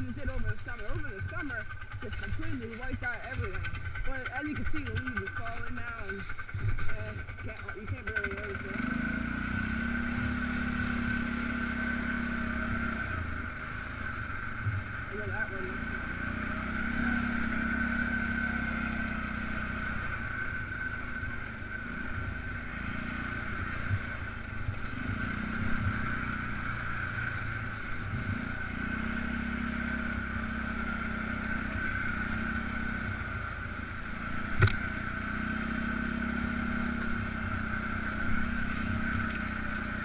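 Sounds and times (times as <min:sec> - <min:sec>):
atv engine running: 0:00.0 - 0:40.0.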